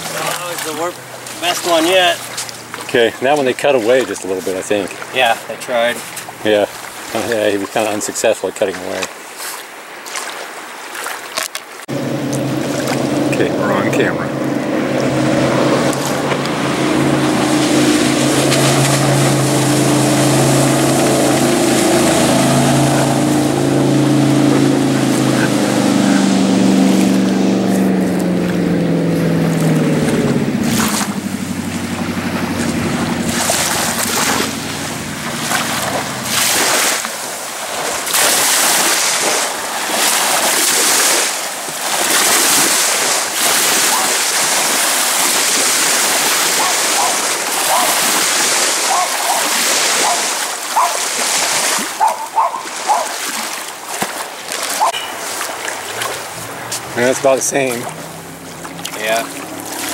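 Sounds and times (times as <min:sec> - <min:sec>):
jet boat engine passing: 0:00.0 - 0:08.4, 0:11.8 - 0:59.9
wake splashing against hull: 0:08.7 - 0:59.9.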